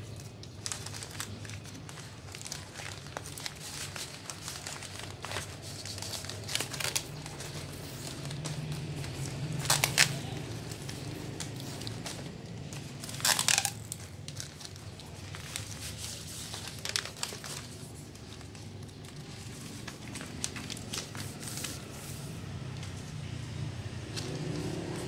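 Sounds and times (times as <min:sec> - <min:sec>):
wrapping paper crinkling: 0:00.0 - 0:25.0.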